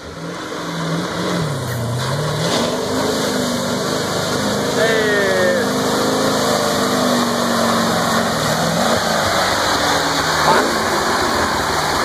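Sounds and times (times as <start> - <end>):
engine running hard: 0.0 - 12.0
tyres churning mud: 0.0 - 12.0.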